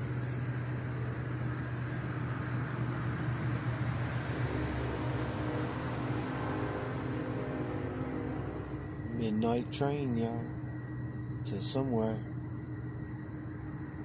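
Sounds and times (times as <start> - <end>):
low hum: 0.0 - 14.0
train passing with rushing noise: 0.0 - 14.0.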